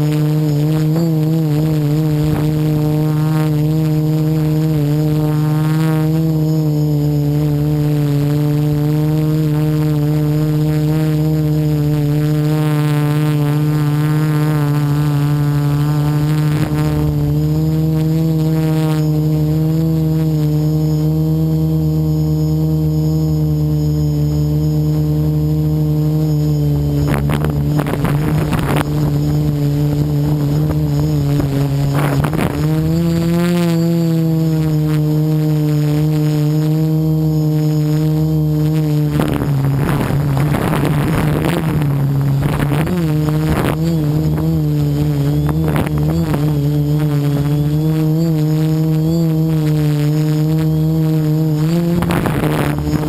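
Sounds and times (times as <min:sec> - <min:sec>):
drone propellers humming: 0:00.0 - 0:53.0
noisy crackling bursts: 0:00.0 - 0:53.0.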